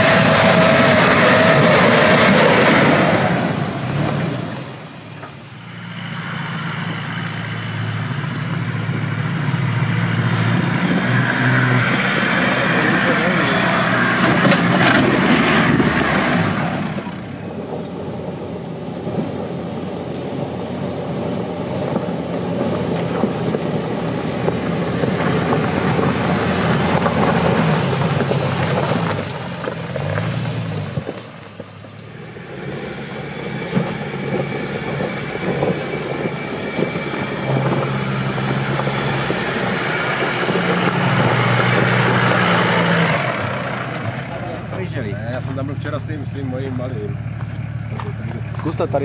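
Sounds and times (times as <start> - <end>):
off-road engine revving: 0.0 - 49.0.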